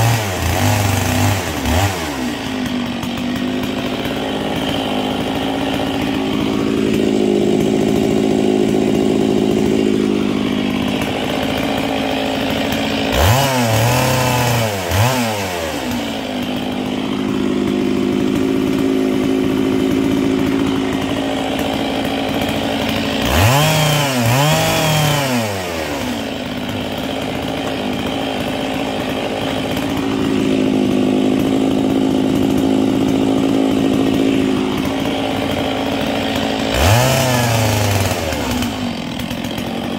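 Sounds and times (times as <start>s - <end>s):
chainsaw engine idling: 0.0s - 39.9s
chainsaw revving: 0.0s - 39.9s.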